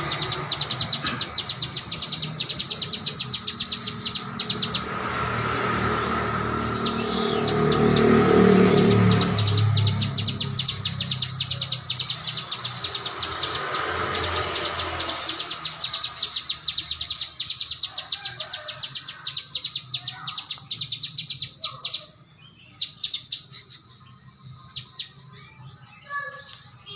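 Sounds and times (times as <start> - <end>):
songbird singing rapid notes: 0.0 - 26.9.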